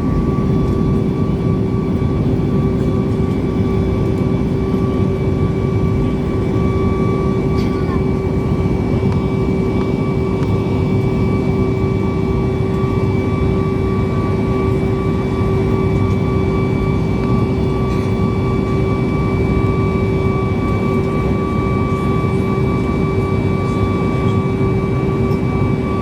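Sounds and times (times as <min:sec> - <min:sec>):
constant engine whine: 0:00.0 - 0:26.0
jet engines in cabin: 0:00.0 - 0:26.0.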